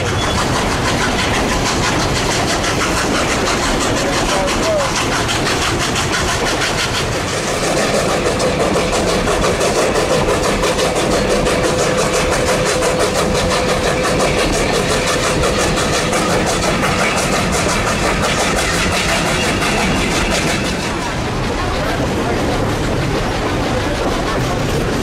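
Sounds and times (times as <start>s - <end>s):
steam locomotive exhaust beat: 0.0s - 25.0s.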